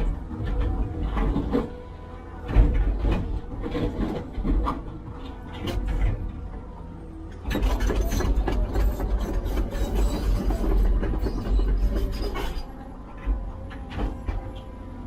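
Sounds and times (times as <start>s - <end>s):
construction machinery engine rumble: 0.0s - 15.0s
machinery clanks and knocks: 0.0s - 15.0s.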